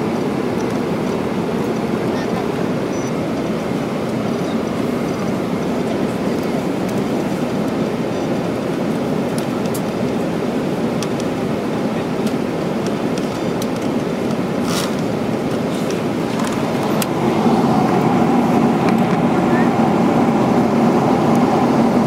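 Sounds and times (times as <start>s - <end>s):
airliner cabin noise: 0.0s - 22.0s.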